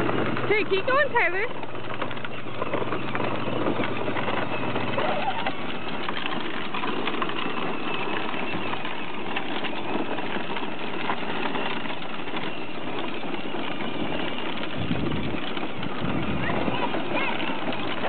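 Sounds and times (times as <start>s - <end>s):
plastic wheels rolling on asphalt: 0.0s - 18.0s.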